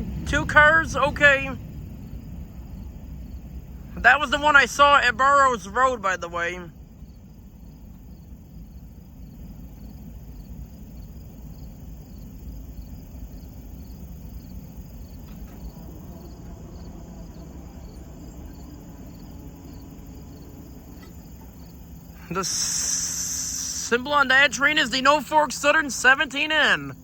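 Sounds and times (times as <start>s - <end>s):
crickets chirping: 0.0s - 27.0s
freight train rumble: 0.0s - 27.0s.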